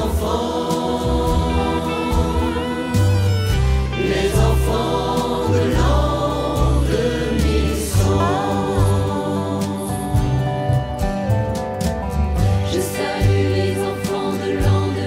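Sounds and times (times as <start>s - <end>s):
choir singing over a band: 0.0s - 11.2s, 12.4s - 15.0s
slide dobro: 0.0s - 13.2s.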